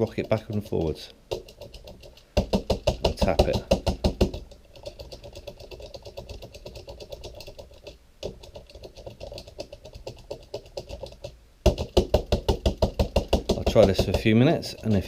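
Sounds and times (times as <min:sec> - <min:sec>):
clicking and tapping on plastic toy: 0:00.0 - 0:15.0.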